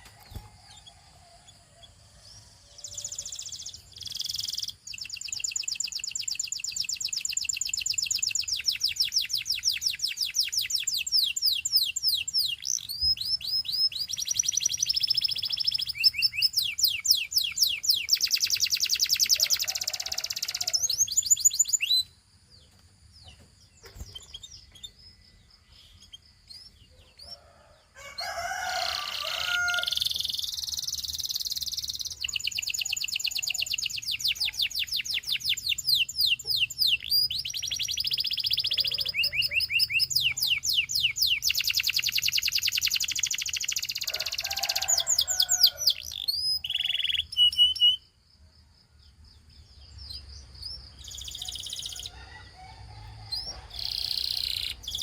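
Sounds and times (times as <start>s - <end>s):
canary singing trills: 0.0s - 48.2s, 49.4s - 55.0s.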